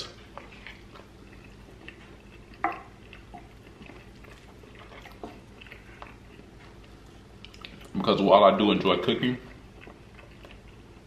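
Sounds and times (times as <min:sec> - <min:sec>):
faint low hum: 0:00.0 - 0:11.0
wet eating clicks and smacks: 0:00.1 - 0:08.2, 0:09.4 - 0:11.0.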